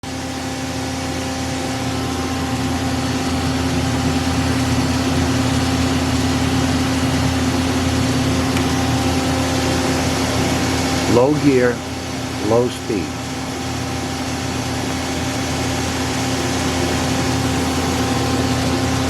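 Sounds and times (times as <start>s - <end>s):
lathe machine hum: 0.0s - 19.0s.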